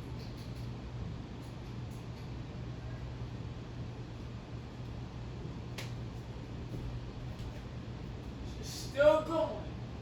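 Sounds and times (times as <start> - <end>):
ceiling fan whirring: 0.0 - 10.0.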